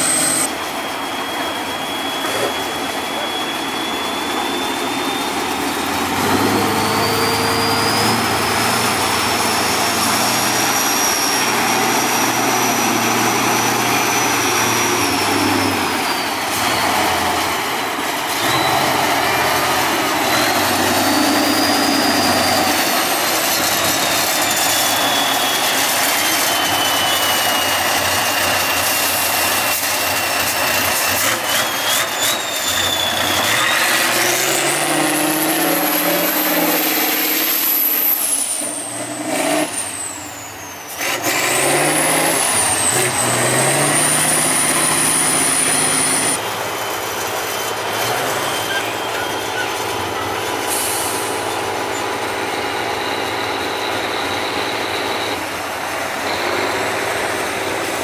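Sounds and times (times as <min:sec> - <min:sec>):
high whistle: 0:00.0 - 0:58.0
truck diesel engine under load: 0:00.0 - 0:58.0.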